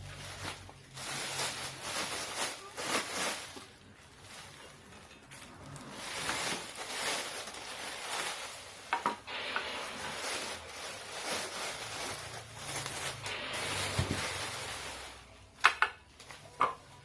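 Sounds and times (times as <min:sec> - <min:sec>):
rustling and rubbing: 0:00.0 - 0:15.5.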